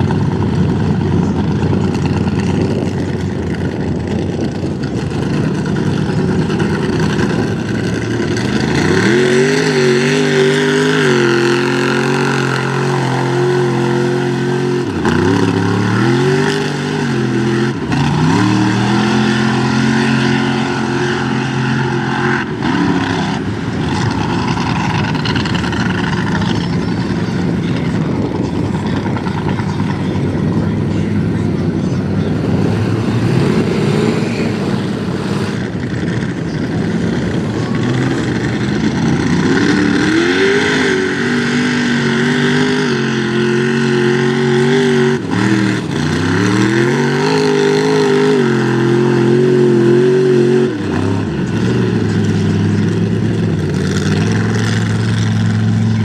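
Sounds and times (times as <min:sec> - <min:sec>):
loud rush of noise: 0:00.0 - 0:56.0
truck engine revving: 0:00.0 - 0:56.0.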